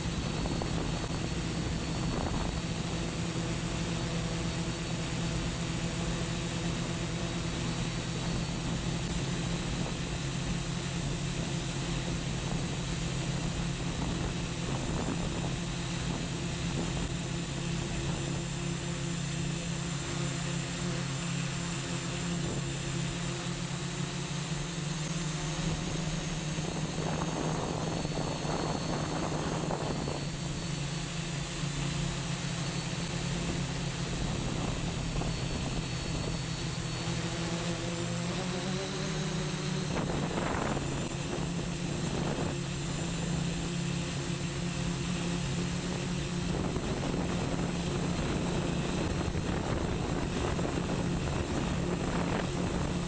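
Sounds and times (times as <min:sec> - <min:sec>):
drone motors buzzing: 0:00.0 - 0:53.0.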